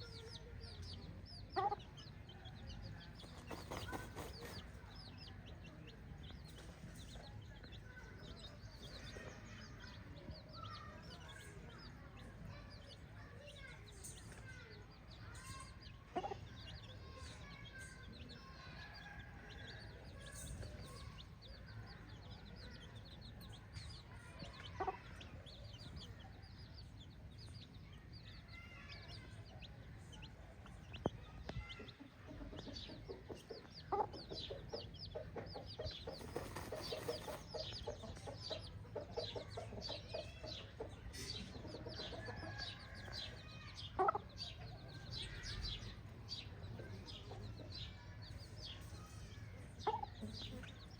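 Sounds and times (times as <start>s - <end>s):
chickens clucking: 0.0s - 50.9s
high peeps of chicks: 0.0s - 50.9s.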